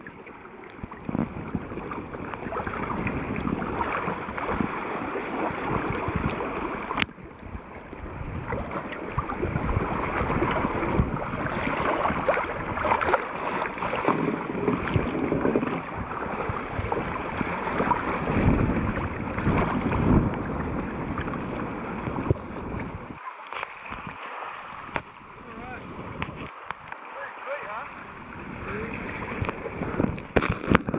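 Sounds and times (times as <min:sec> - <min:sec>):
muffled underwater water sloshing: 0:00.0 - 0:30.9.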